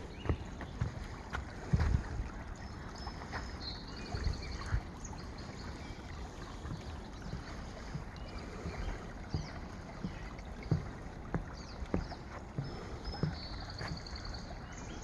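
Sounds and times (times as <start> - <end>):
footsteps on wooden boardwalk: 0.0 - 15.0
shallow stream flowing: 0.0 - 15.0.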